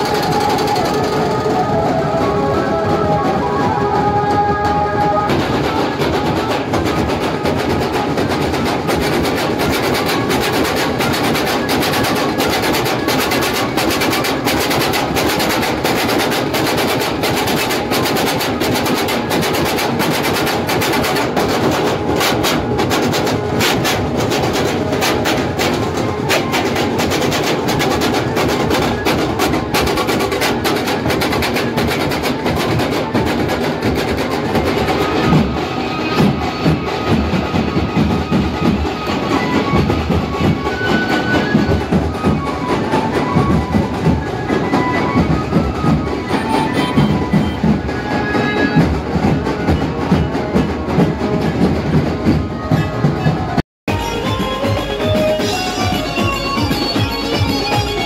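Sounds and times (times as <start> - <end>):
fast drumming: 0.0 - 58.0
held notes: 0.0 - 58.0.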